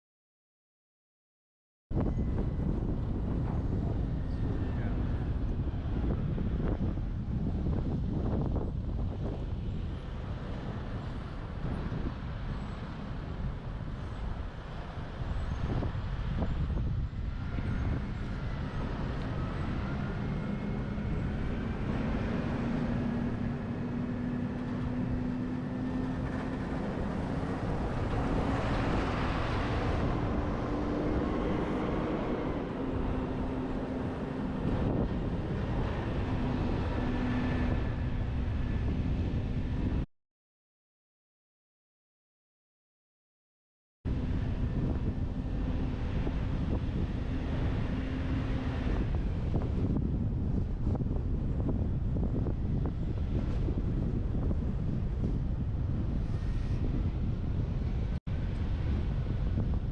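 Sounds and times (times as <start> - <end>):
road and wind noise: 1.9 - 40.1, 44.1 - 59.9.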